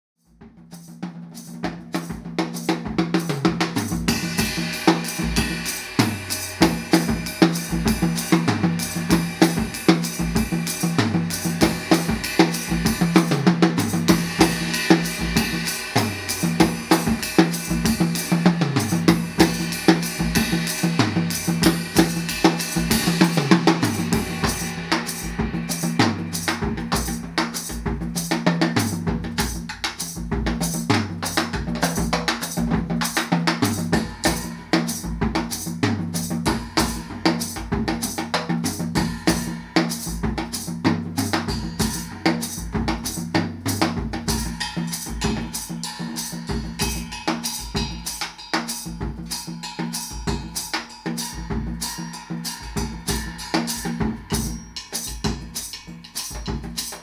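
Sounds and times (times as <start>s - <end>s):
cymbals washing: 0.2s - 57.0s
drum kit groove: 0.2s - 57.0s.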